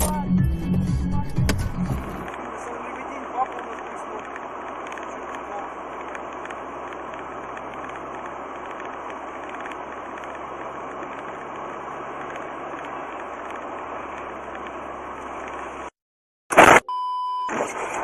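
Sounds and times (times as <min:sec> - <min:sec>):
car road and engine noise: 0:00.0 - 0:16.0, 0:17.4 - 0:18.0.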